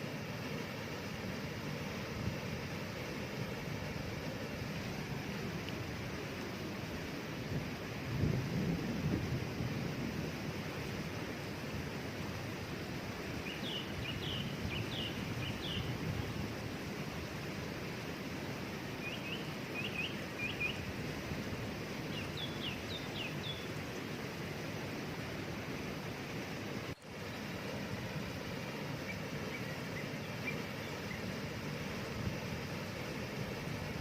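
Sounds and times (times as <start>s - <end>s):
waterfall rushing: 0.0s - 8.5s, 9.4s - 34.0s.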